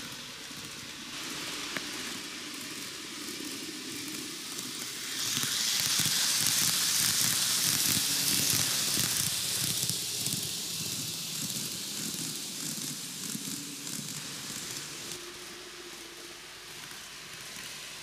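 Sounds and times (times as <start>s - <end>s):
model train running past: 0.0s - 18.0s.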